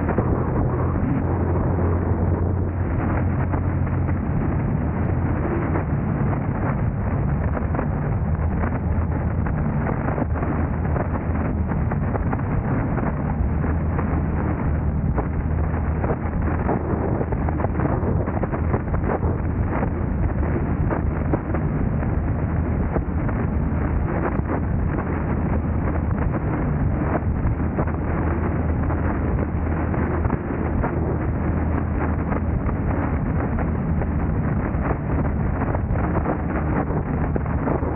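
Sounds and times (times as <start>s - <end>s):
car road and wind noise: 0.0s - 37.9s
low hum: 0.0s - 37.9s.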